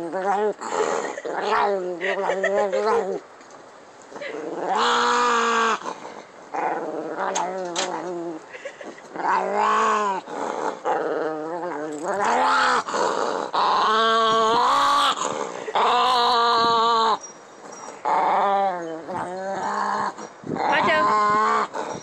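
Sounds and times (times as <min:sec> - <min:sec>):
dog growling moans: 0:00.0 - 0:03.2, 0:04.1 - 0:22.0.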